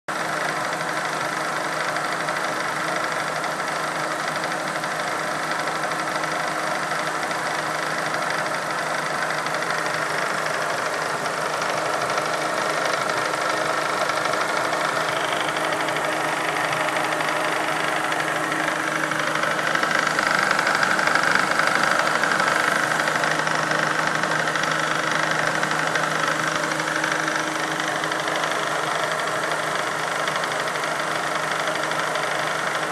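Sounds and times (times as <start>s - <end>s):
car engine idling: 0.1s - 32.9s
supercharger knocking: 2.0s - 32.9s.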